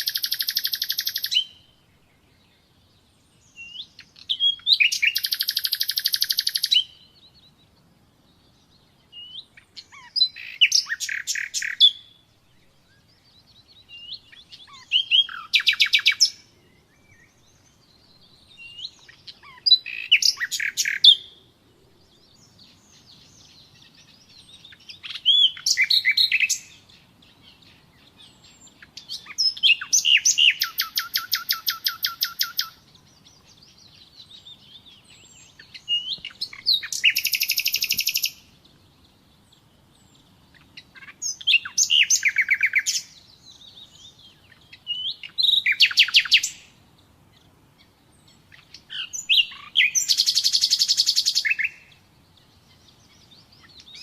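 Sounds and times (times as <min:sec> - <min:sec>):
nightingale singing trills: 0:00.0 - 0:54.0.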